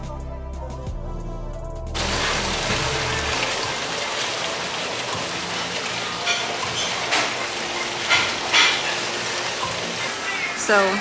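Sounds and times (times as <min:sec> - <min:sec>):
restaurant ambience hiss: 0:02.0 - 0:11.0.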